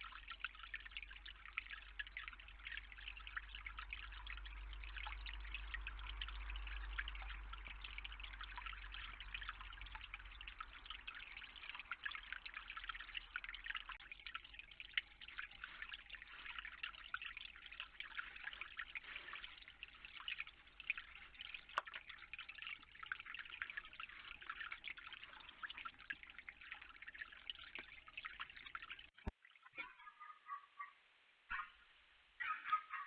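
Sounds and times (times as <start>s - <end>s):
water dripping and trickling: 0.0s - 30.1s.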